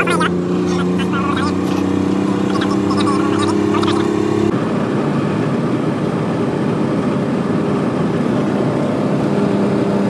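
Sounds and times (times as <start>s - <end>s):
road noise: 0.0s - 10.0s
truck engine hum: 0.0s - 10.0s.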